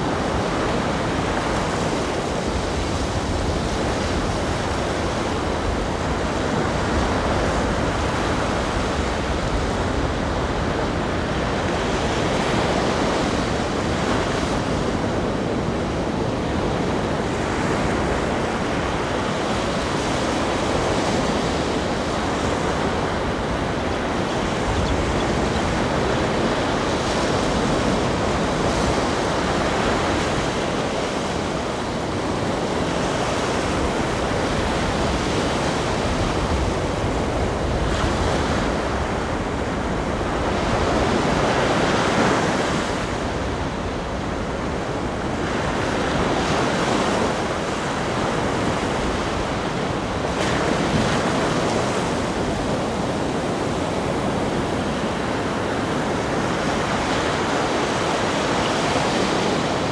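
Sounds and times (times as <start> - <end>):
ocean surf rushing: 0.0 - 59.9.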